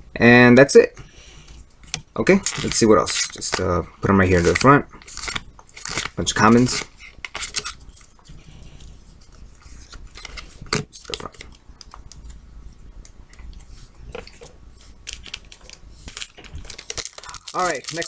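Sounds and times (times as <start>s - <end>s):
steady low hum: 0.0s - 18.0s
cards rustling: 1.9s - 12.4s, 13.5s - 18.0s.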